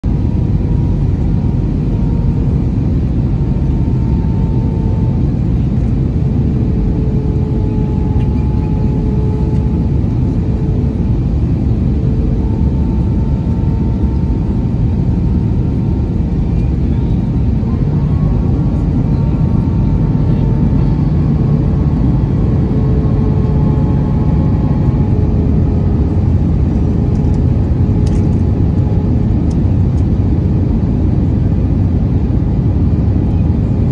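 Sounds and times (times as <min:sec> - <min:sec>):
aircraft cabin rumble: 0:00.0 - 0:33.9.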